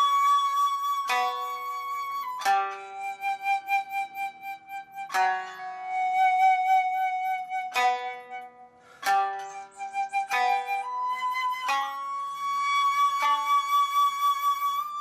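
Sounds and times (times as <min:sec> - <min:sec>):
bamboo flute holding long notes: 0:00.0 - 0:15.0.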